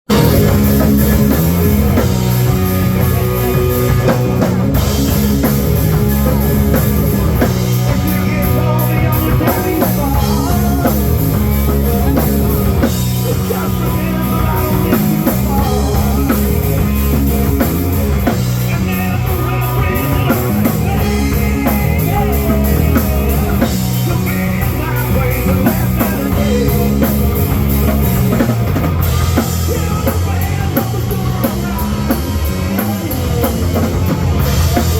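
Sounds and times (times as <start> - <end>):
rock band playing: 0.0 - 34.9.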